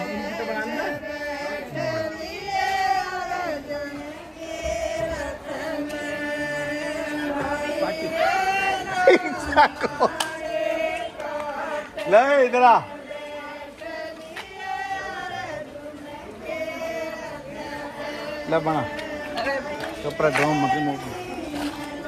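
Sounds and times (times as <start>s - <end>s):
women singing folk song: 0.0s - 22.0s.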